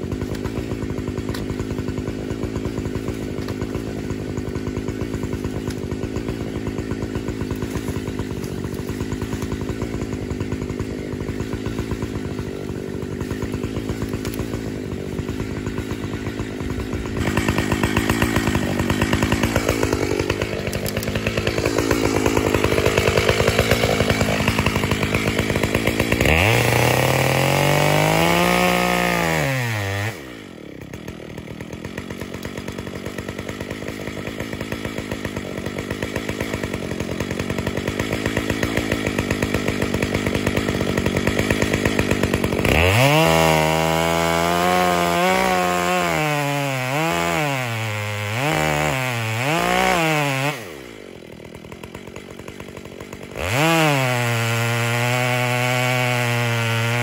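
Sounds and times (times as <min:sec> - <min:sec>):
two-stroke chainsaw idling: 0:00.0 - 0:57.0.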